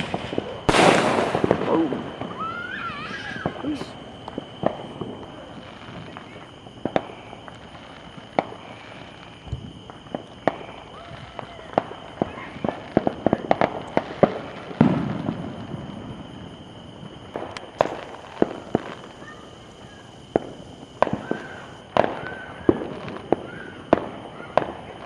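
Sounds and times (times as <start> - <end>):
firework boom rumbling: 0.0 - 24.8
firecrackers banging: 0.0 - 25.0.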